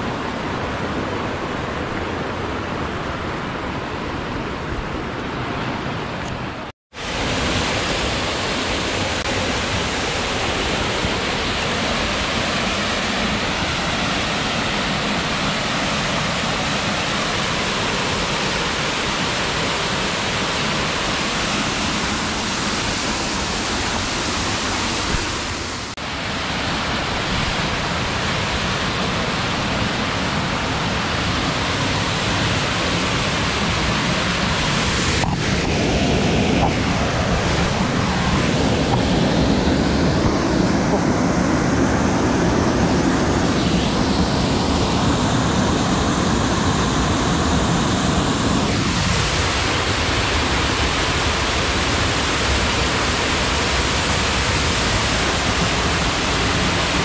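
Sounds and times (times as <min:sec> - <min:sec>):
river rushing: 0:00.0 - 0:57.0
waterfall rushing: 0:00.0 - 0:57.0.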